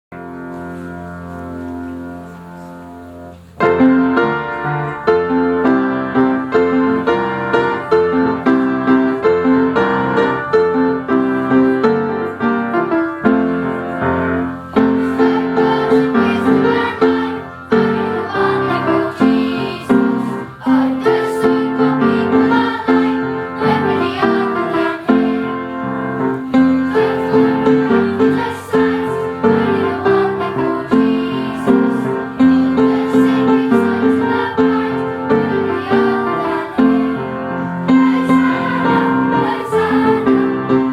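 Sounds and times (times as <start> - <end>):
piano music: 0.1 - 40.9.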